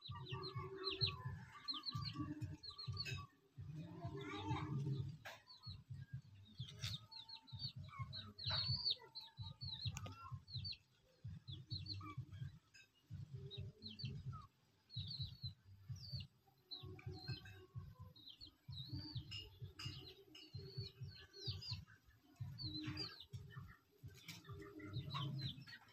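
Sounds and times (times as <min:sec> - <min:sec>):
chicks peeping: 0:00.0 - 0:25.9.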